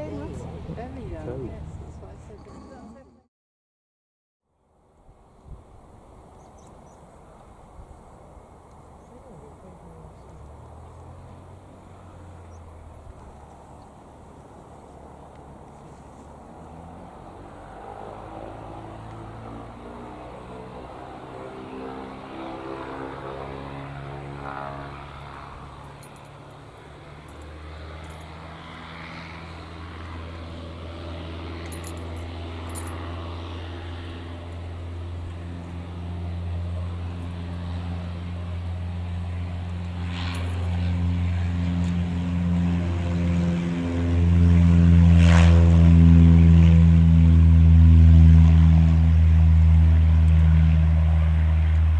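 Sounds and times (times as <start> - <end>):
propeller aircraft engine drone: 0.0 - 3.3, 4.5 - 51.9.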